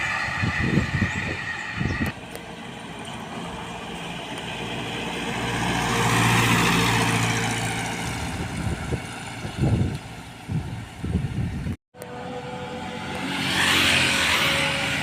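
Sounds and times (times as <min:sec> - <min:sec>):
heavy diesel truck passing: 0:00.0 - 0:11.0, 0:12.0 - 0:15.0.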